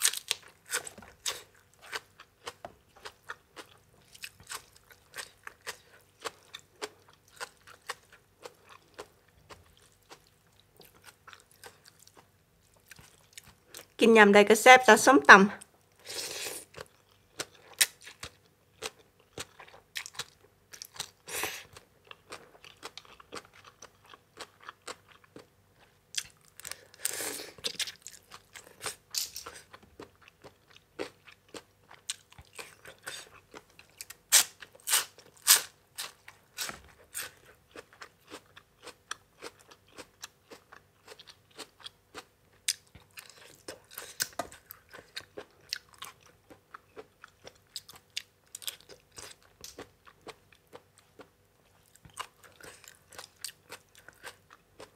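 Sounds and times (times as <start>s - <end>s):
chewing and crunching raw vegetables: 0.0s - 14.0s, 15.6s - 54.9s.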